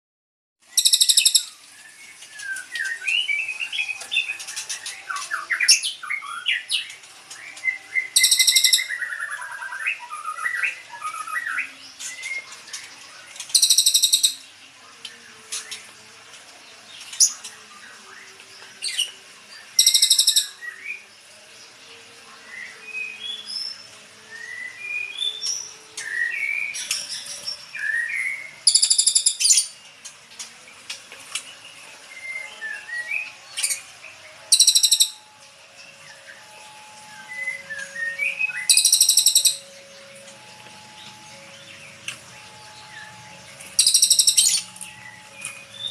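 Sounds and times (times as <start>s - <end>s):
birds chirping and whistling: 0.6s - 21.2s, 22.0s - 45.9s.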